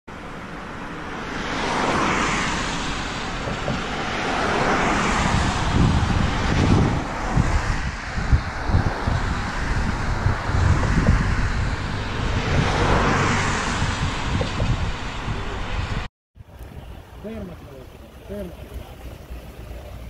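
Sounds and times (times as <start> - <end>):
road noise: 0.1 - 20.0
wind rushing over microphone: 0.2 - 20.0.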